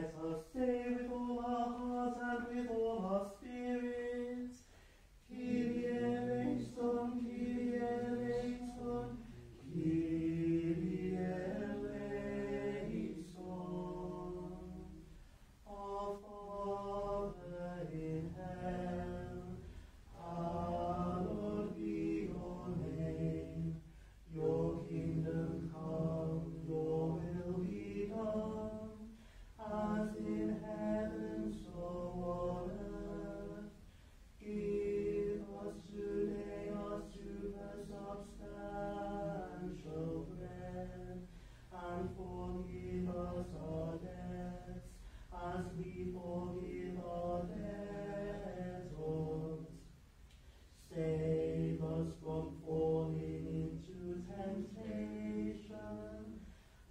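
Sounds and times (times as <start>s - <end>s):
unaccompanied liturgical chant: 0.0s - 56.9s.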